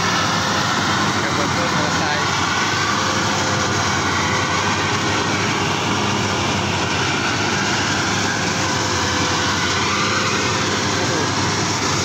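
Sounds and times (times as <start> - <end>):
harvester engine droning: 0.0 - 12.0.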